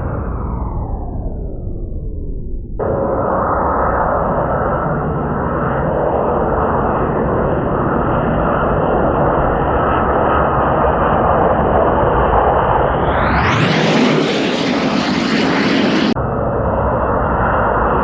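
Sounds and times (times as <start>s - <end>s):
aircraft engine noise: 2.8s - 18.0s.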